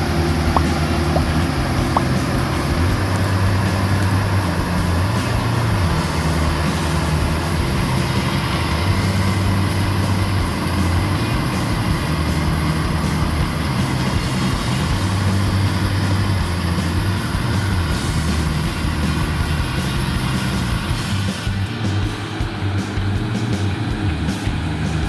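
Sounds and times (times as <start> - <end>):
harvester diesel engine drone: 0.0 - 25.0
machinery noise: 0.0 - 25.0.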